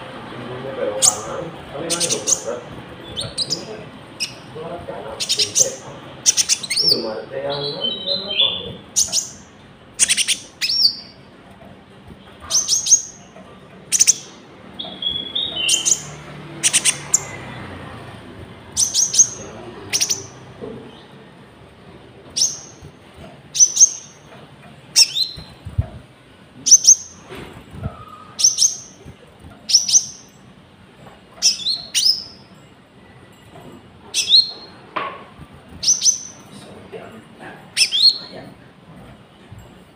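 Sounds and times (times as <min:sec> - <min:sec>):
songbird chirping: 0:00.3 - 0:38.6.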